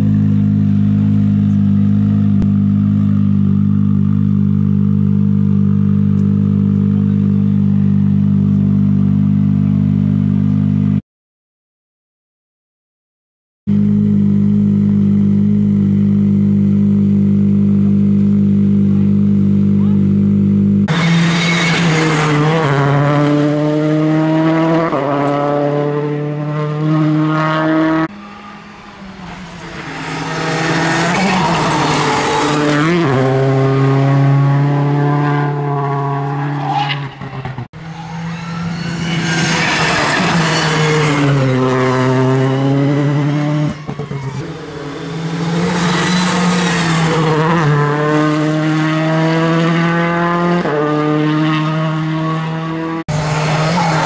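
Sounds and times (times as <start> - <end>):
rally car engine revving: 0.0 - 11.0, 13.7 - 54.0.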